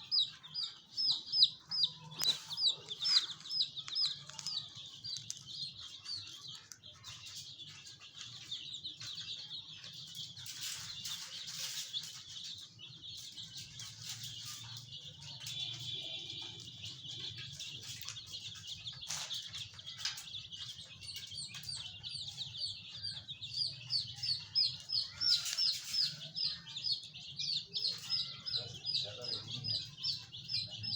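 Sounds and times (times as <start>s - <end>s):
chicks peeping: 0.0s - 30.9s.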